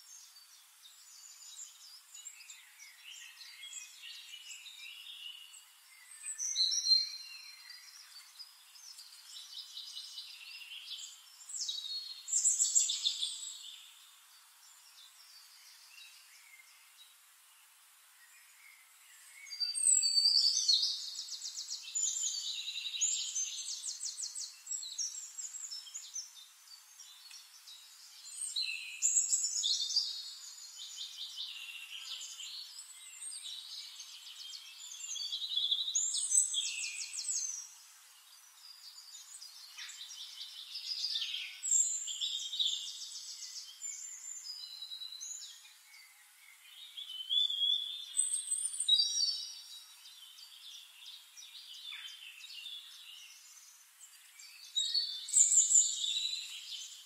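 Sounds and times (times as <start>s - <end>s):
songbird trills and chirps: 0.0s - 57.0s.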